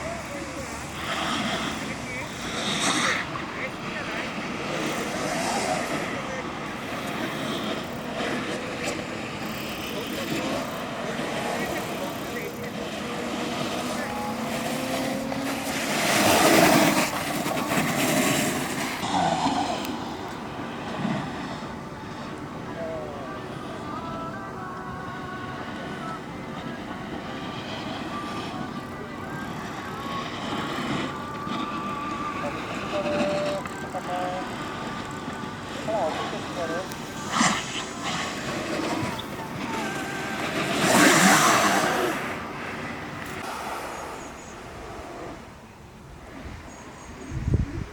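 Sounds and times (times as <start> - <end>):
wheels rolling on pavement: 0.0 - 47.9.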